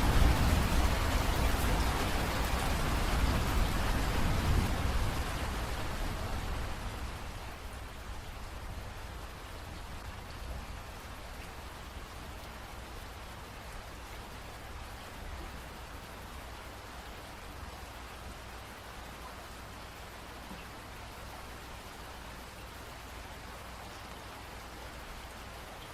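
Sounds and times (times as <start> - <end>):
steady rain hiss: 0.0 - 25.9.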